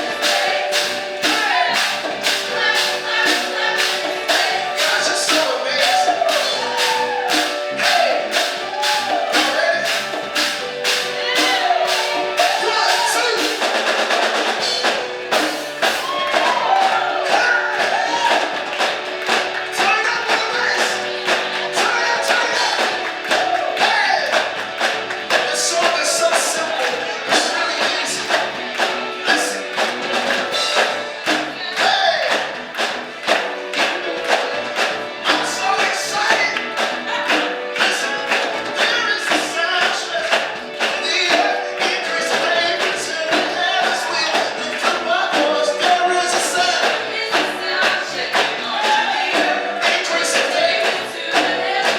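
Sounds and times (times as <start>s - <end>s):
music with singing voices: 0.0s - 51.9s
steady percussion beat: 0.0s - 51.9s.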